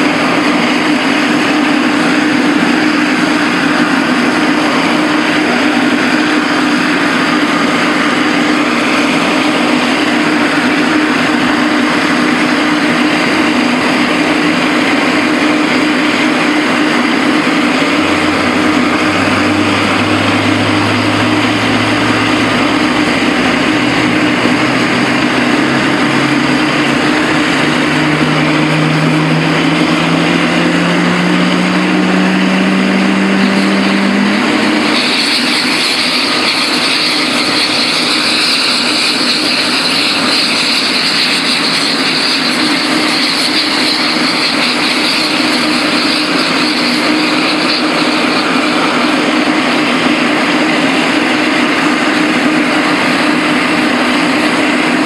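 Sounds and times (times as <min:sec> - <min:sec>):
higher whine: 0:00.0 - 0:55.0
jet engine whine spooling up: 0:00.0 - 0:55.0
steady hum: 0:00.0 - 0:55.0.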